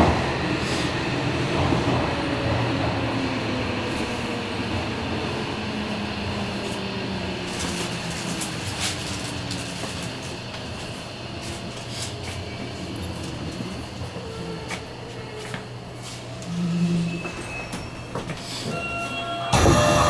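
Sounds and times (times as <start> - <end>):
subway wheel and track rumble: 0.0 - 20.0.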